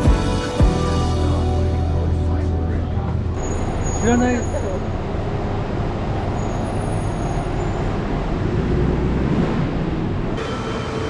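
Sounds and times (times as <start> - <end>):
vehicle rumble: 0.2 - 10.4.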